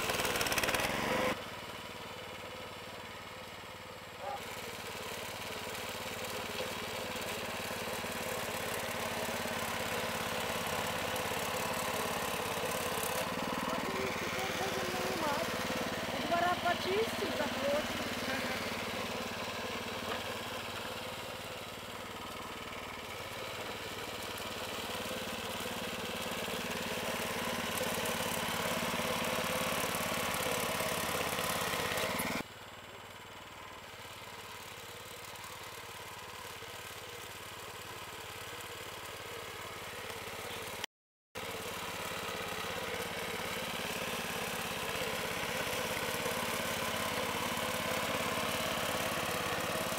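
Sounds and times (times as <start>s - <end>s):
walk-behind tractor engine running: 0.0s - 49.9s.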